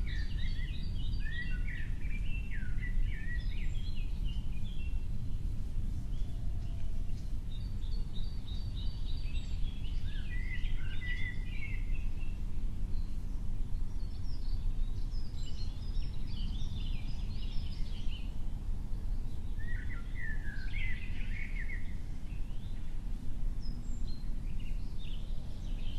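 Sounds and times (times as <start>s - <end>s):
low background rumble: 0.0s - 25.9s
songbirds chirping: 0.0s - 25.9s.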